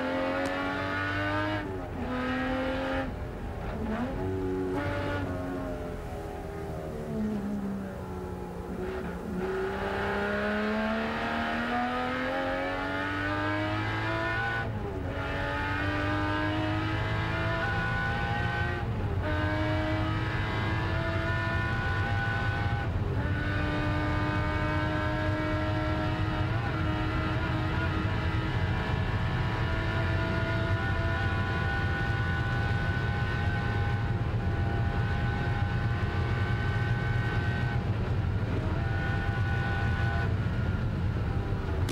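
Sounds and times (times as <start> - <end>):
racing car engine accelerating: 0.0 - 41.9.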